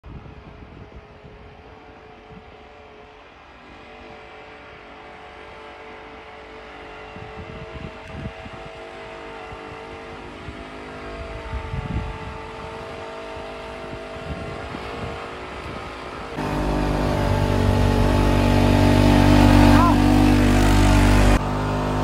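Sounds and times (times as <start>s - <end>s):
atv engine running: 3.0s - 22.0s.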